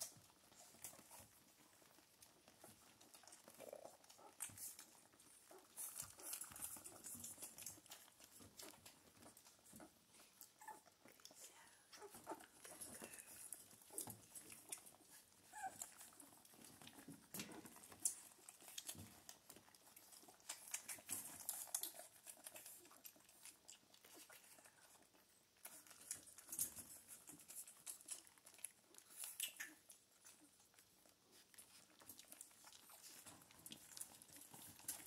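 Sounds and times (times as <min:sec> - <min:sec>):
puppies suckling wet clicks: 0:00.0 - 0:35.0.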